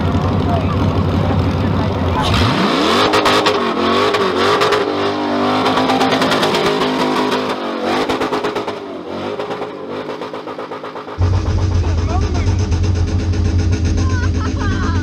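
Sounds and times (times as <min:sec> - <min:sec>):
car engine revving high: 0:00.8 - 0:15.0.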